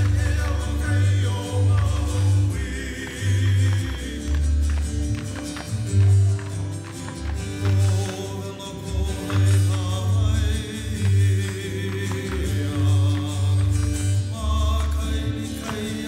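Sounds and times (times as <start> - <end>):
person singing: 0.0 - 5.2, 7.5 - 16.0
sharp percussive clicks: 0.0 - 16.0.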